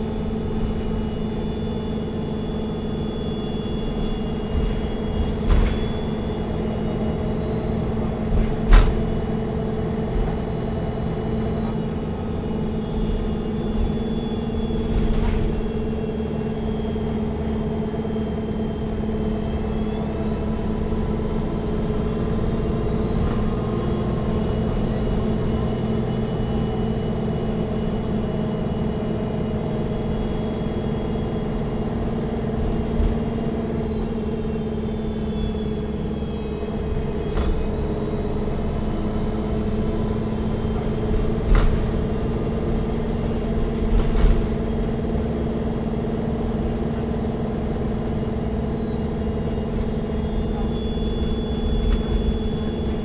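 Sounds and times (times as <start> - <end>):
bus engine and road rumble: 0.0 - 53.0
high whine: 0.0 - 53.0.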